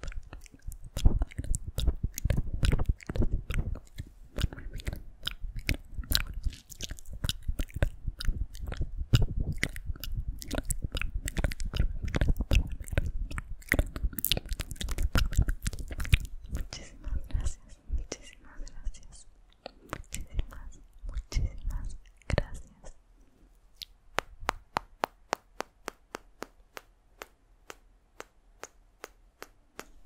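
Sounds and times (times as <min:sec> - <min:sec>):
mouth clicks and smacks: 0:00.0 - 0:30.0.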